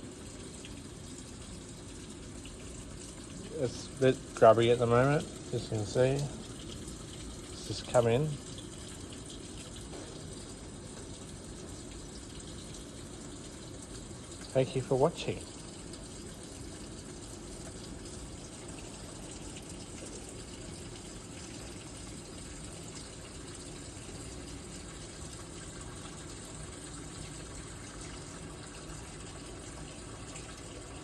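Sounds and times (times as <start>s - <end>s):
washing machine running: 0.0s - 31.0s
water rushing into tub: 0.0s - 31.0s.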